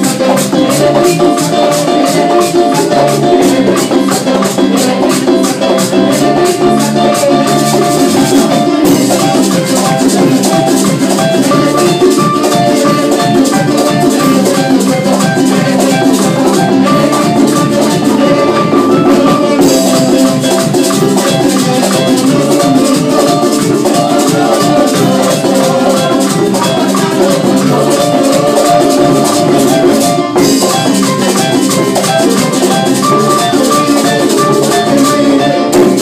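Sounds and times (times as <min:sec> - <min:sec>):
guira scraping rhythm: 0:00.0 - 0:36.0
keyboard: 0:00.0 - 0:36.0.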